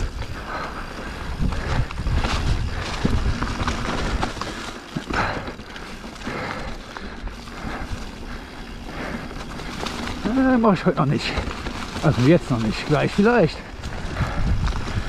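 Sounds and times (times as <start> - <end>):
bike knocking and rattling: 0.0 - 15.0
bike tyres on dirt trail: 0.0 - 15.0
wind rumbling on microphone: 0.0 - 15.0.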